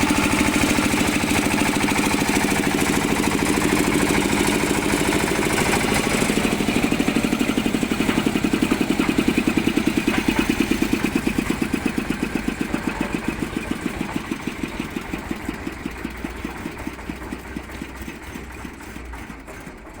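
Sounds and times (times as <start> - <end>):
concrete mixer engine thumping: 0.0 - 20.0.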